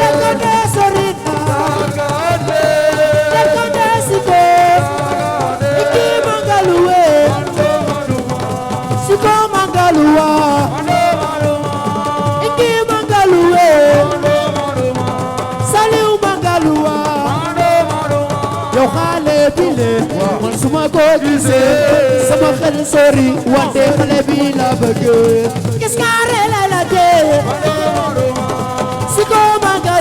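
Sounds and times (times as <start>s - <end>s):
hand drums and percussion: 0.0s - 30.0s.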